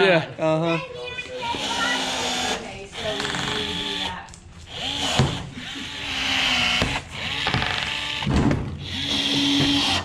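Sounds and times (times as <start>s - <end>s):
power tool whirring in bursts: 1.4s - 10.0s.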